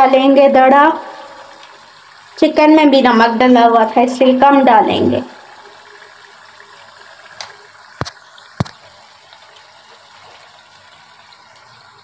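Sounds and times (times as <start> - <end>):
sauce bubbling and sizzling in oil: 0.0 - 12.0.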